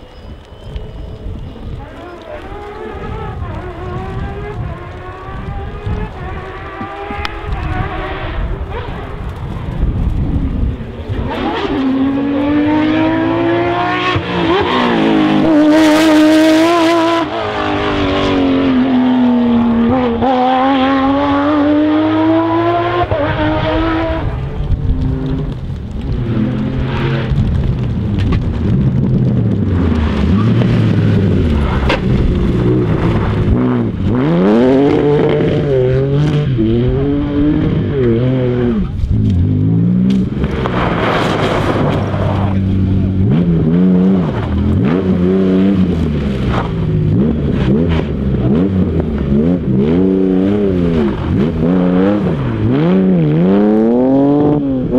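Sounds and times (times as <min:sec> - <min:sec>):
rally car engine revving: 0:01.8 - 0:54.9.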